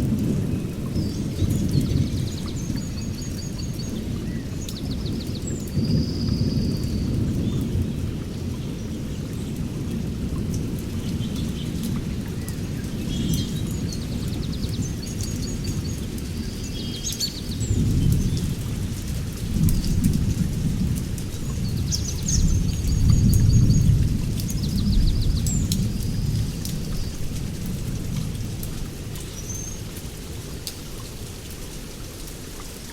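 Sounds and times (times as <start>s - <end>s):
rain falling: 0.0s - 32.9s.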